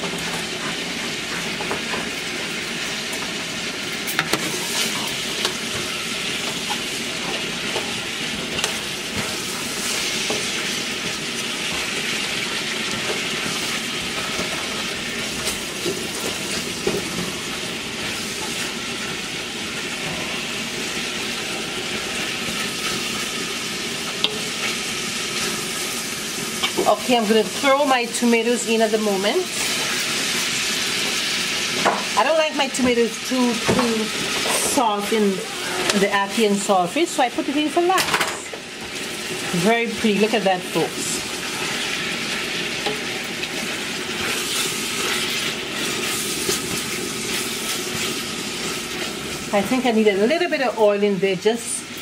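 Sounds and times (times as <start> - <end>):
food sizzling in a pot: 0.0 - 52.0.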